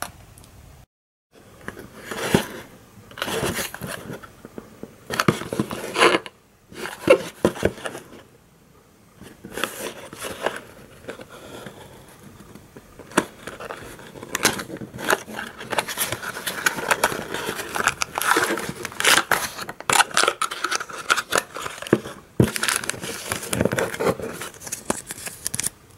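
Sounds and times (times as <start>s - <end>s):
cardboard scraping and crinkling: 1.6s - 8.3s, 9.2s - 25.7s.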